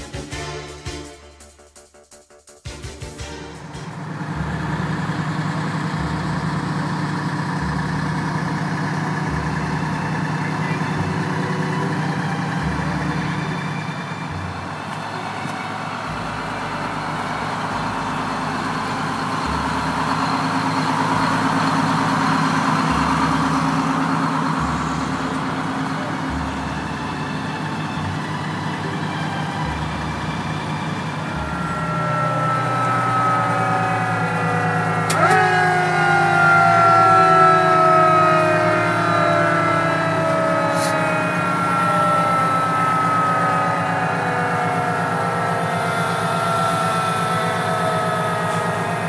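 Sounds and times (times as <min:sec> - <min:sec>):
fire engines idling: 0:00.0 - 0:49.0
siren winding down: 0:03.2 - 0:49.0.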